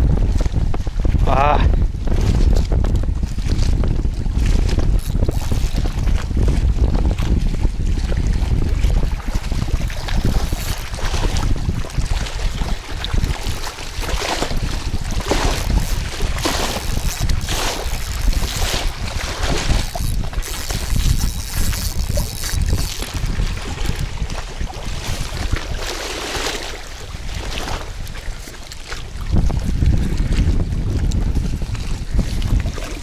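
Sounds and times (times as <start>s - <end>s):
waves lapping against bank: 0.0s - 33.0s
wind buffeting microphone: 0.0s - 33.0s.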